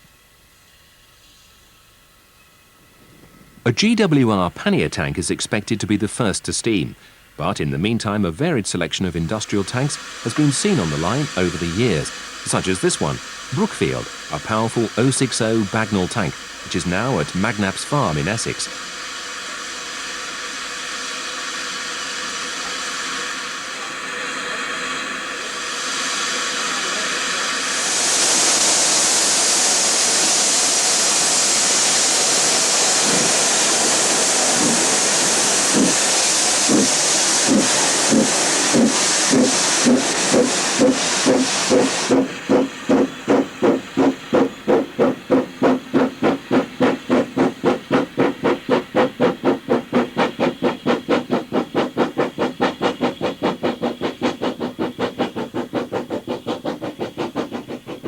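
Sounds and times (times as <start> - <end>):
steam hissing from drain cocks: 3.0 - 58.0
steam locomotive chuffing: 3.0 - 58.0.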